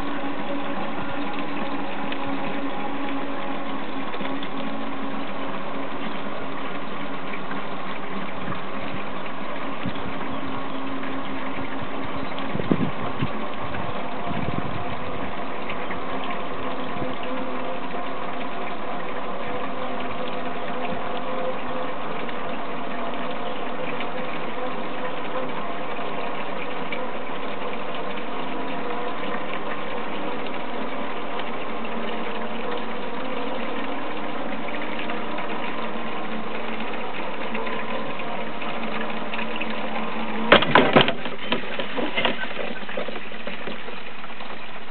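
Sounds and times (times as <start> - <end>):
ropeway mechanical hum: 0.0 - 44.9.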